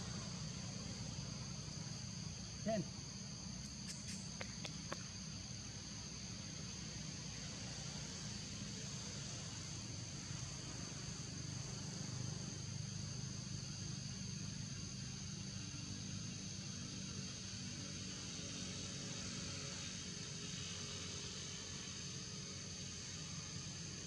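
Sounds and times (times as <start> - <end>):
insects chorus high tones: 0.0 - 24.0.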